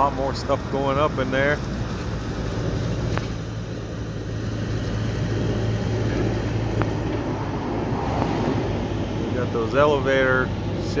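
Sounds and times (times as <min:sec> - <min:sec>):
construction machinery rumble: 0:00.0 - 0:11.0.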